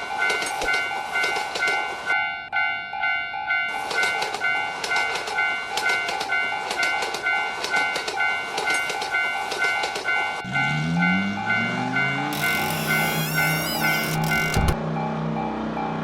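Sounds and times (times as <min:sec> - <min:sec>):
train wheels clicking over rail joints: 0:00.0 - 0:02.1, 0:03.4 - 0:14.8
crossing warning bell ringing: 0:00.0 - 0:16.0.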